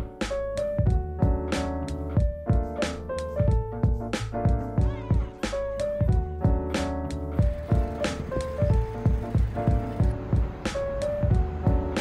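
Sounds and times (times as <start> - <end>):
held keyboard notes: 0.0 - 12.0
music with steady beat: 0.0 - 12.0.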